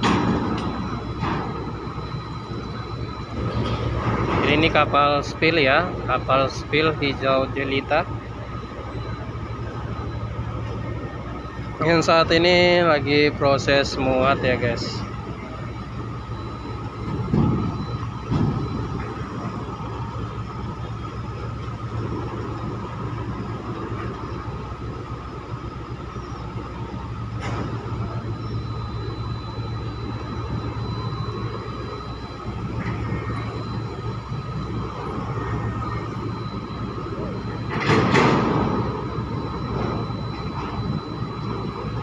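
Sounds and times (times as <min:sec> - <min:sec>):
diesel machinery droning: 0:00.0 - 0:42.0
low hum: 0:00.0 - 0:42.0.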